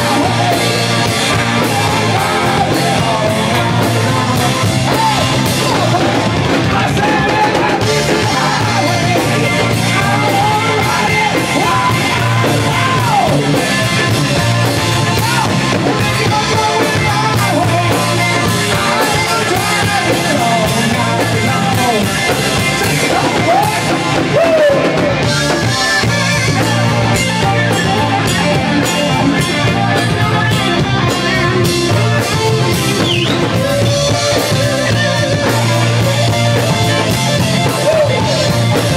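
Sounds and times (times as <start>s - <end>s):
man singing into microphone: 0.0s - 32.1s, 33.0s - 38.9s
drum kit: 0.0s - 38.9s
electric guitars: 0.0s - 38.9s.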